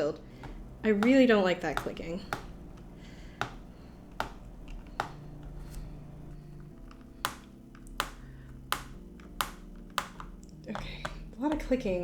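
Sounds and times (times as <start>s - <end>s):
plastic laptop case clicking: 0.4s - 12.0s.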